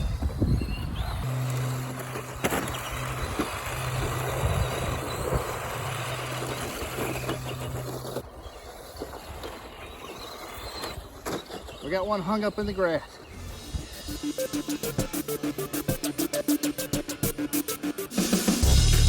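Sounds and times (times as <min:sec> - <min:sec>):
radio-controlled cars racing: 0:00.0 - 0:18.1.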